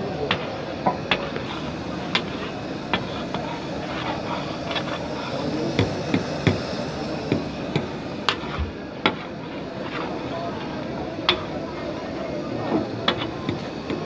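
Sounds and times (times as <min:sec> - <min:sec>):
liver sizzling on a griddle: 0:00.0 - 0:14.0
metal spatula scraping griddle: 0:00.3 - 0:14.0.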